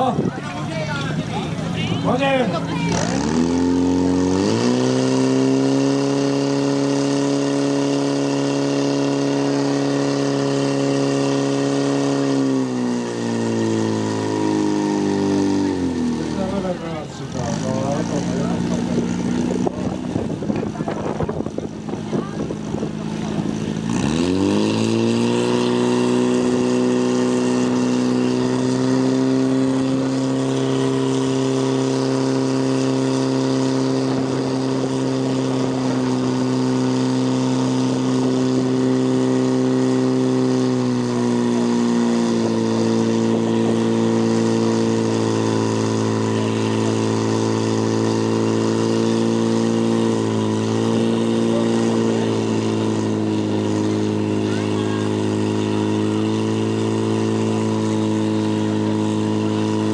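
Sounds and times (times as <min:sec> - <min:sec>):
pump engine revving: 0:00.0 - 0:59.9.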